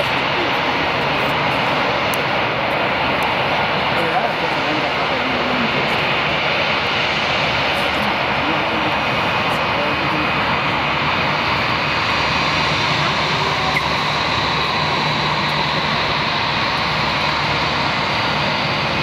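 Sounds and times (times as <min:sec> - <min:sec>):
high steady engine tone: 0:00.0 - 0:19.0
jet engines rushing: 0:00.0 - 0:19.0
low engine hum: 0:00.0 - 0:19.0.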